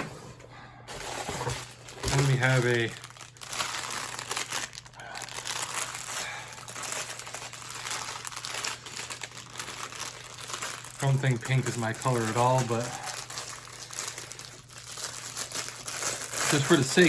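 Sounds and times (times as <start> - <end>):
plastic packaging crinkling: 0.9 - 17.0.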